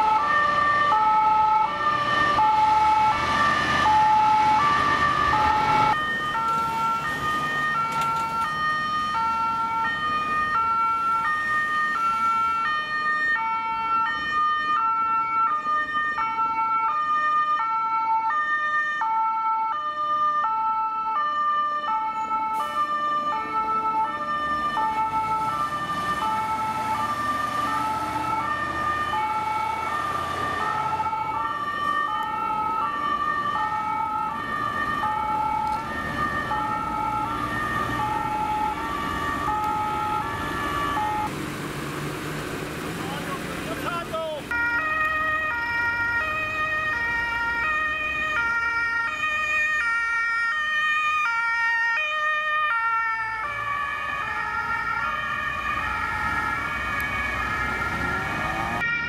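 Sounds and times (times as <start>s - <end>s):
two-tone emergency sirens: 0.0s - 41.3s, 43.0s - 59.0s
diesel truck engines: 0.0s - 59.0s.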